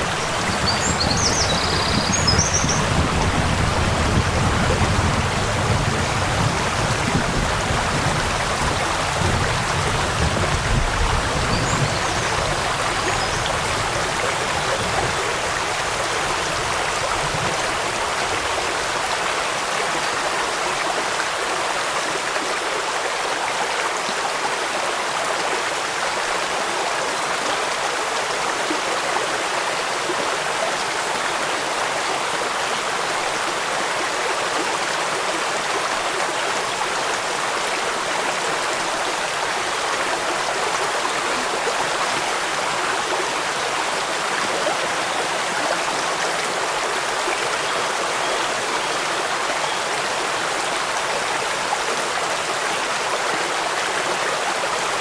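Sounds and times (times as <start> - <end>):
rain: 0.0 - 55.0
running water: 0.0 - 55.0.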